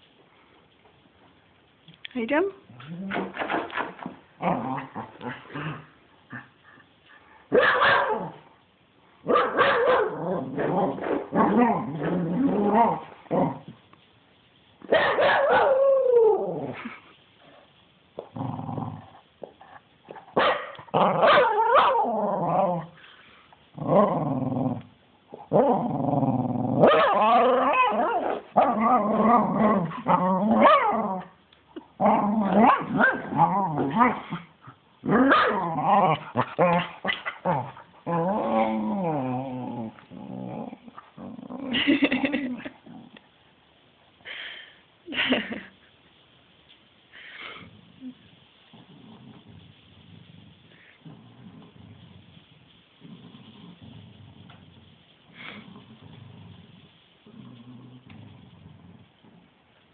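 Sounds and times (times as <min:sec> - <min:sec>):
dog growling and barking: 0:02.7 - 0:06.6, 0:07.5 - 0:08.6, 0:09.2 - 0:13.8, 0:14.8 - 0:17.0, 0:18.2 - 0:23.0, 0:23.7 - 0:43.2, 0:47.6 - 0:59.7.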